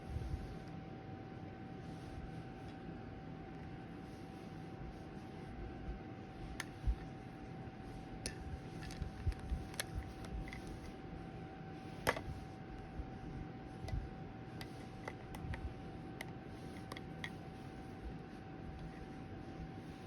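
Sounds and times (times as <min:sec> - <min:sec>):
faint hum: 0:00.0 - 0:20.0
low room rumble: 0:00.0 - 0:20.0.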